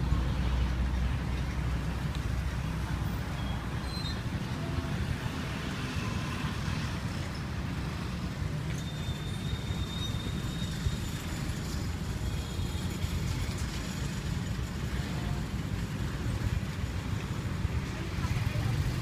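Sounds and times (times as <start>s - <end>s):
street background rumble: 0.0s - 19.0s.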